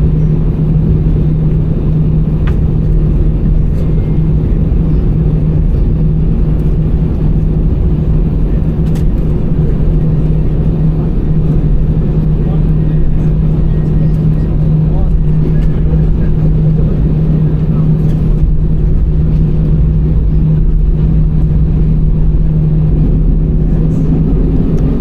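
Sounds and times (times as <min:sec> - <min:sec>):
aircraft cabin rumble: 0:00.0 - 0:25.0
steady hum: 0:00.0 - 0:25.0.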